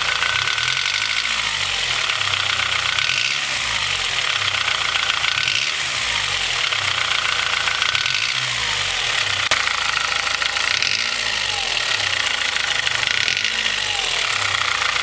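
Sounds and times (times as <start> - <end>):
rapid piston knocking: 0.0 - 3.5, 4.1 - 5.8, 6.4 - 15.0
car engine idling: 0.0 - 15.0.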